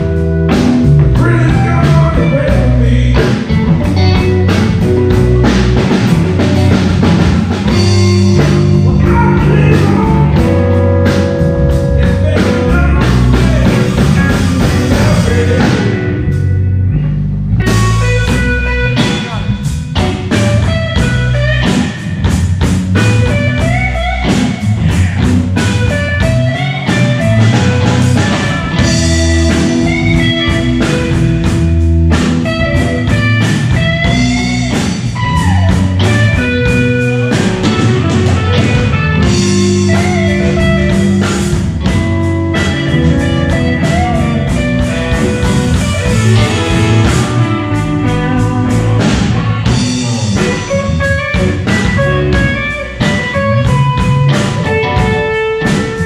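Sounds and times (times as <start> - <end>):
electric lead guitar bent notes: 0.0 - 56.0
live blues band: 0.0 - 56.0.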